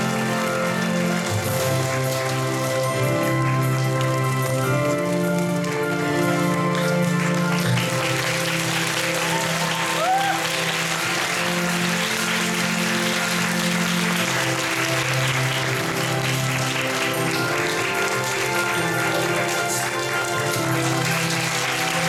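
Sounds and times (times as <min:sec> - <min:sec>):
audience applauding: 0:00.0 - 0:22.0
music playing: 0:00.0 - 0:22.0.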